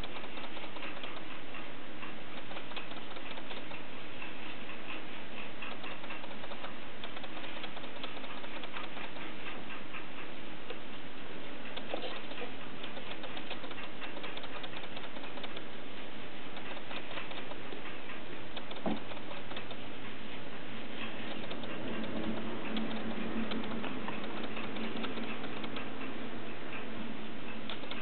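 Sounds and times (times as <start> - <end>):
model train wheels clicking on track: 0.0 - 28.0.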